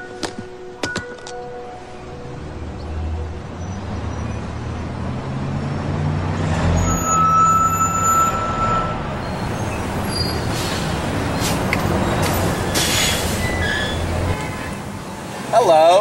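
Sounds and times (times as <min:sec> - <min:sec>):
heavy vehicle rumbling past: 0:02.0 - 0:15.5.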